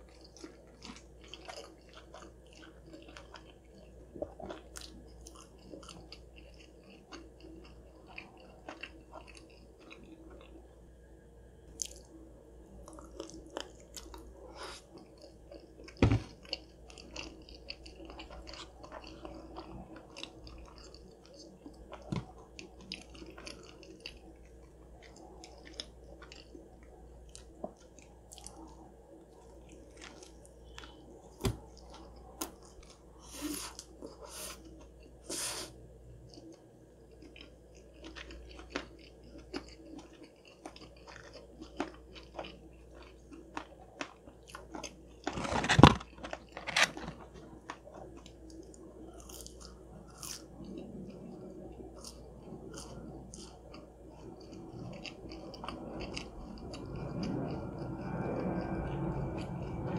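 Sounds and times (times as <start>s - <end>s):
chewing with wet mouth smacks: 0.0s - 10.6s, 11.7s - 12.2s, 12.8s - 35.4s, 36.2s - 45.6s, 47.2s - 59.9s.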